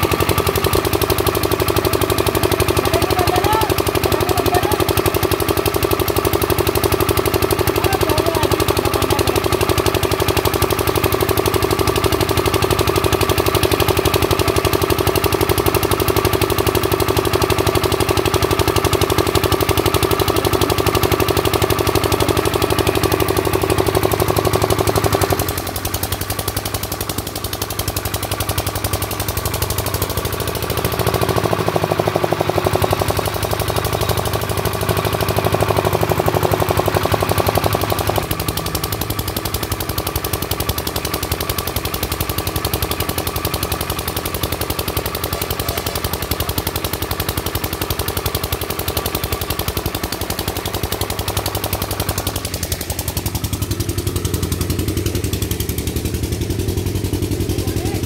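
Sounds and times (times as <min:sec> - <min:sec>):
diesel generator engine running: 0:00.0 - 0:58.0.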